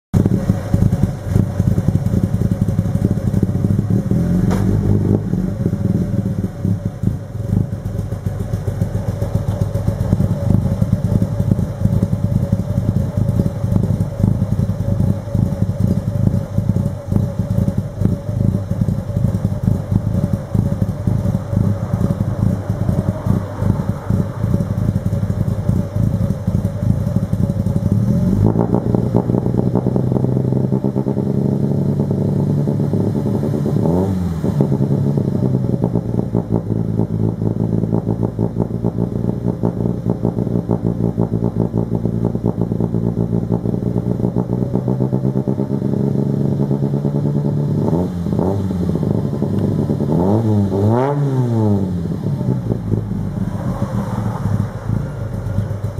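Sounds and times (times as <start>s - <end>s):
car engine idling and revving: 0.1s - 55.9s.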